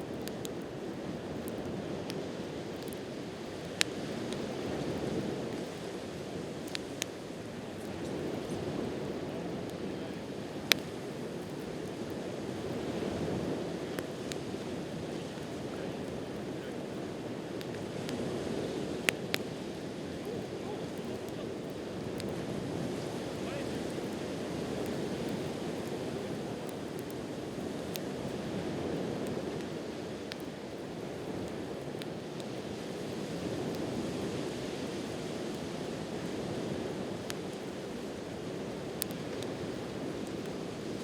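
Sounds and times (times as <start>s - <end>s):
campfire crackling: 0.0s - 41.0s
sea waves on shore: 0.0s - 41.0s.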